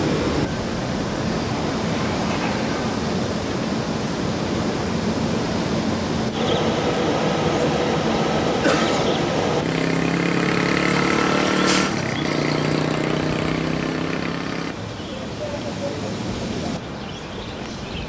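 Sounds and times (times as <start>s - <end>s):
vehicle engines droning: 0.0s - 3.6s, 5.2s - 17.7s.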